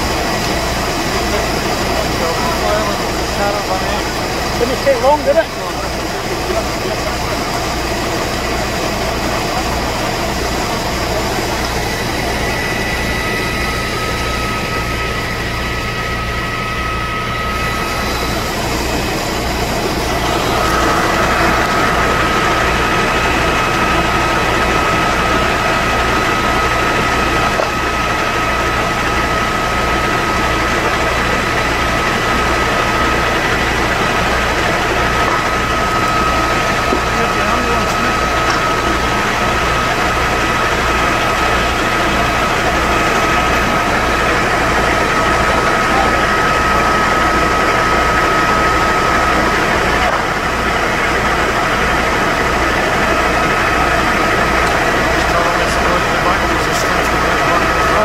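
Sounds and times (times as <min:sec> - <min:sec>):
diesel pump engine droning: 0:00.0 - 0:58.0
pump whine: 0:00.0 - 0:58.0.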